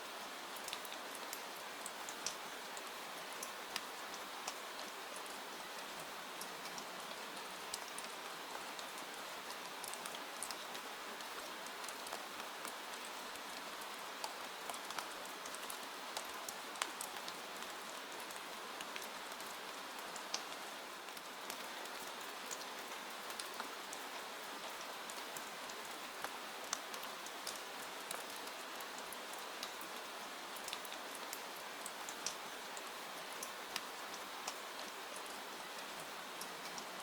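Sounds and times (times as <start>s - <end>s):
raindrops ticking on surfaces: 0.0s - 37.0s
steady rain hissing: 0.0s - 37.0s.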